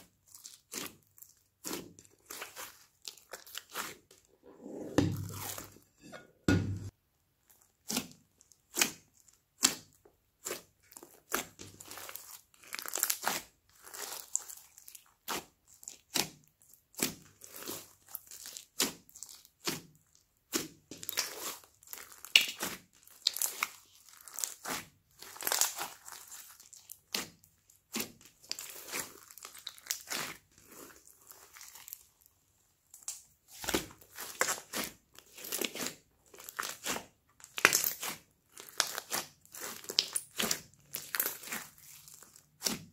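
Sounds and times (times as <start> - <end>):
slime squishing: 0.0 - 6.1, 6.7 - 42.9.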